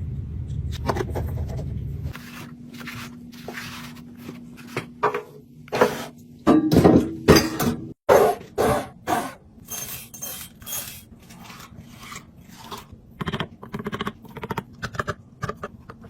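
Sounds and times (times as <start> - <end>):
kitchen items knocking and clattering: 0.8 - 16.0.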